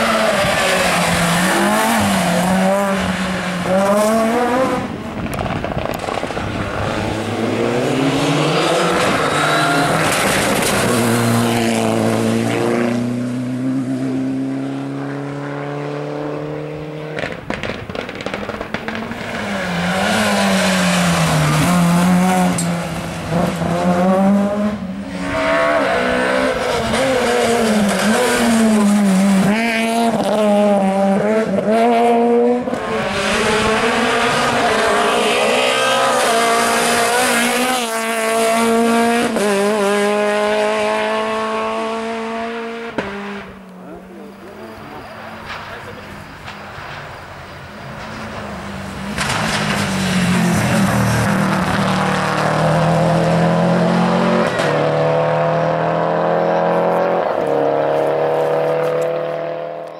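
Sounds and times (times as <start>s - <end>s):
rally car engine at full throttle: 0.0s - 59.9s.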